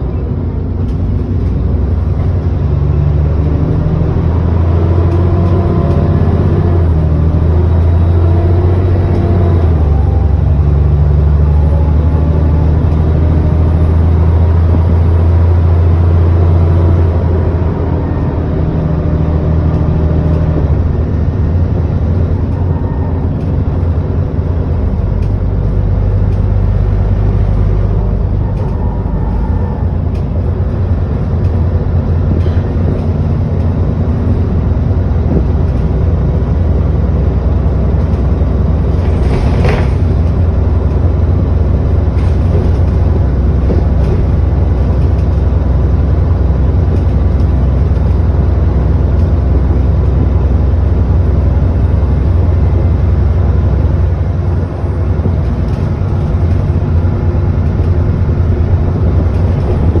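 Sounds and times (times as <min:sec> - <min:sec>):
bus engine and road rumble: 0:00.0 - 1:00.0.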